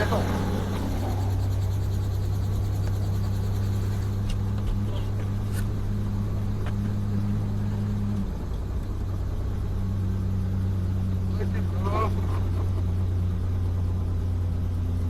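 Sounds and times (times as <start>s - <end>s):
helicopter low drone: 0.0s - 15.0s.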